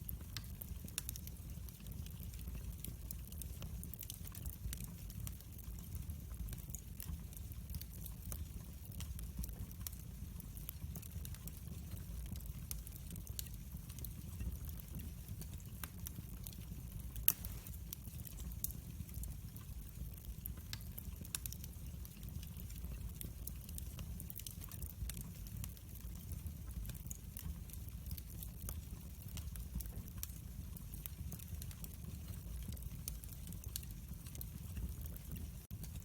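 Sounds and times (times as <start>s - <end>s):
low rumble of flames: 0.0s - 36.0s
fire pops and snaps: 0.1s - 36.0s.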